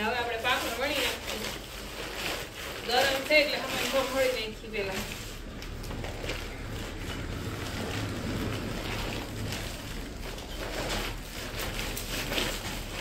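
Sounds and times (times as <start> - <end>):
plastic sack crinkling: 0.0 - 13.0.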